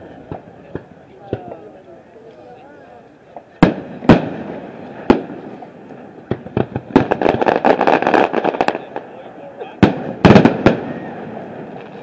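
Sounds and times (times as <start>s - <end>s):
fireworks booming: 0.0s - 1.8s, 3.3s - 12.0s
fireworks crackling pops: 0.0s - 2.5s, 3.3s - 12.0s.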